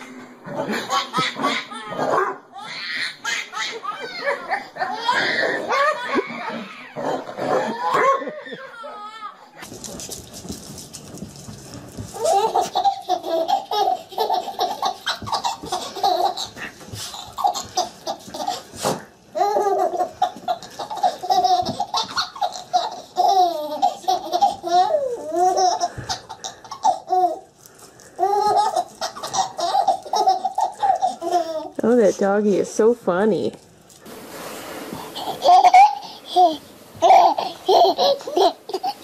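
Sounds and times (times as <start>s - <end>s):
baby laughing: 0.6s - 9.6s, 12.2s - 27.5s, 28.2s - 31.8s, 35.0s - 39.0s.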